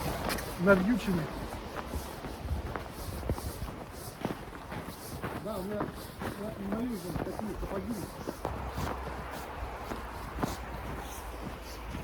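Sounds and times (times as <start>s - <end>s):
footsteps in snow: 0.0s - 12.0s.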